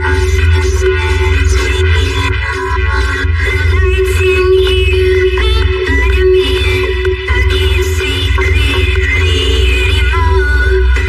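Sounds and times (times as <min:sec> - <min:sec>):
electronic music with pulsing bass: 0:00.0 - 0:11.0.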